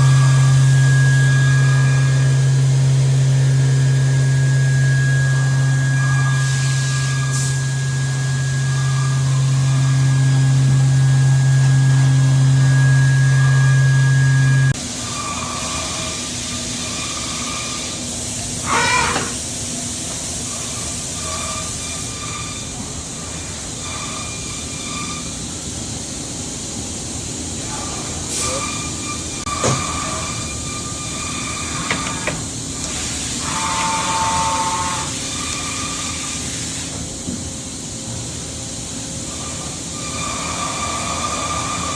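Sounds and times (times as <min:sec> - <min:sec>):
machine whine: 0:00.0 - 0:41.9
machining center humming: 0:00.0 - 0:41.9.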